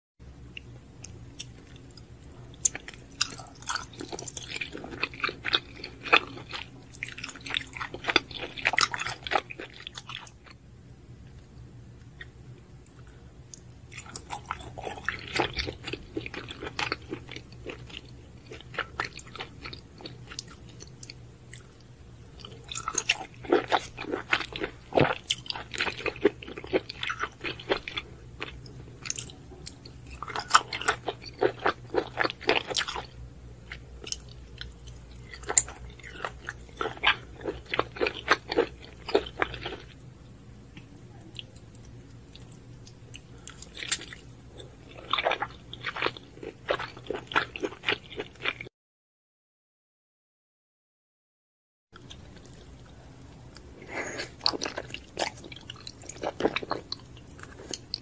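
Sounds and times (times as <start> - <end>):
chewing shellfish: 0.5 - 10.6, 12.0 - 40.1, 40.7 - 48.7, 52.0 - 58.0.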